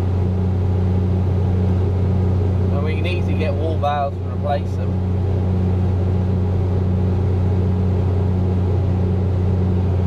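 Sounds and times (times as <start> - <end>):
tractor engine humming: 0.0 - 10.0.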